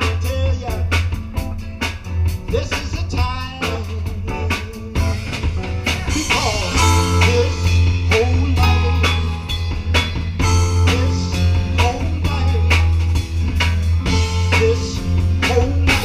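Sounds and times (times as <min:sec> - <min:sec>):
guitar: 0:00.0 - 0:16.0
live band playing: 0:00.0 - 0:16.0
steady drum beat: 0:00.0 - 0:16.0.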